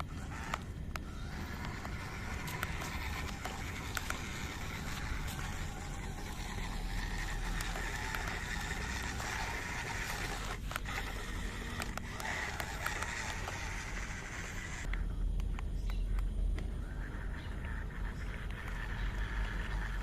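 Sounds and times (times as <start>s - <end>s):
small electric motor whining: 0.0s - 15.0s, 16.8s - 20.0s.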